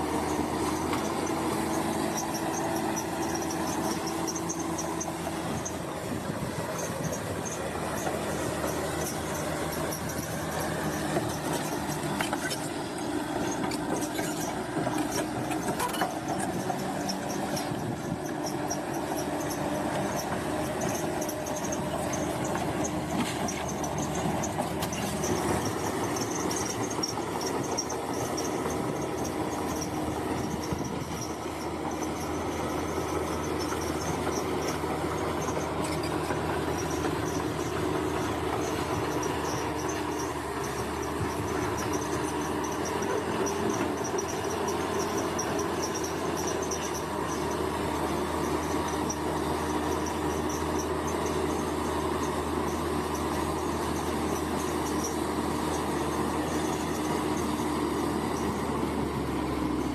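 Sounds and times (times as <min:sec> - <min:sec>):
diesel engine under load: 0:00.0 - 0:59.9
steel tracks clanking and squealing: 0:00.0 - 0:59.9.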